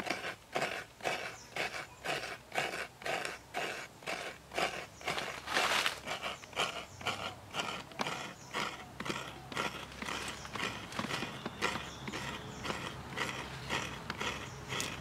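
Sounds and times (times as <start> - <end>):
coconut scraping on grater: 0.0 - 15.0.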